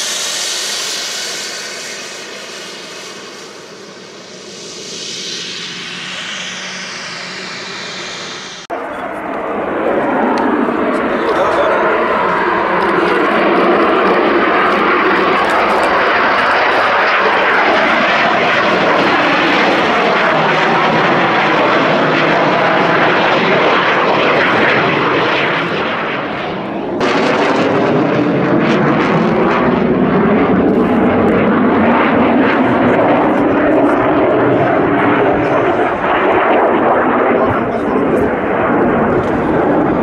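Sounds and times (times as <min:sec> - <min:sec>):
jet engines at high power: 0:00.0 - 0:40.0.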